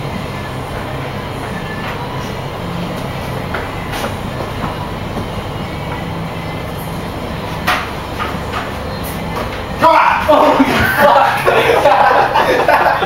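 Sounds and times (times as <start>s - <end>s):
machinery hum and rumble: 0.0s - 13.0s.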